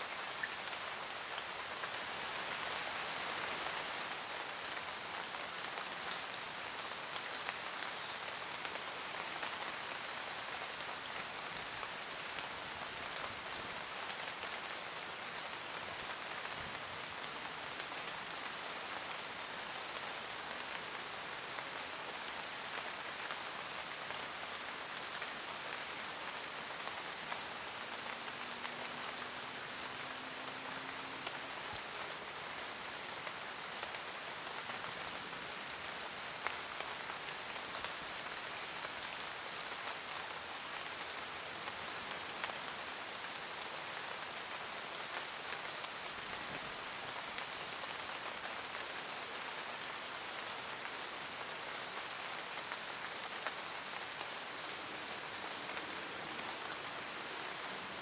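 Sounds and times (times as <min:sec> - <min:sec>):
rain pattering in forest: 0:00.0 - 0:58.0.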